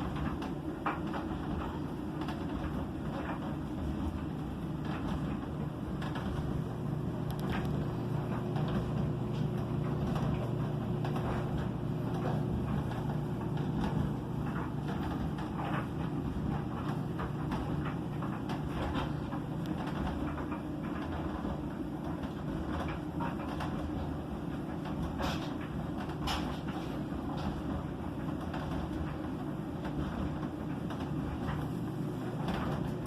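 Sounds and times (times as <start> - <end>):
drum and laundry ticks and swishes: 0.0 - 33.0
washing machine motor hum: 0.0 - 33.0.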